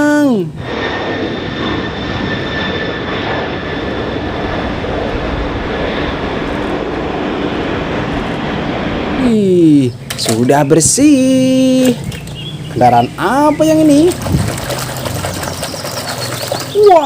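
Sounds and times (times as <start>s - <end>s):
jet engine noise with whine: 0.0s - 17.0s.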